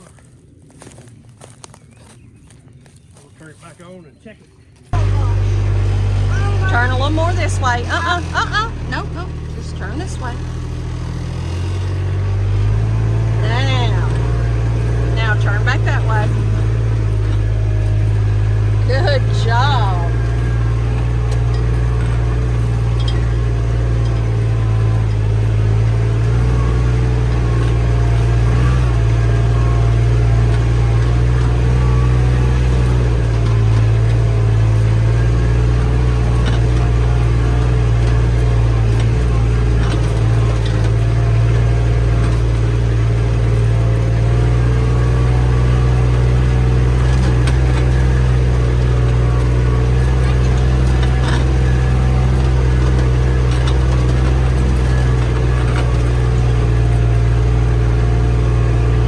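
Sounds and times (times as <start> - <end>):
vehicle engine running: 4.7 - 59.0.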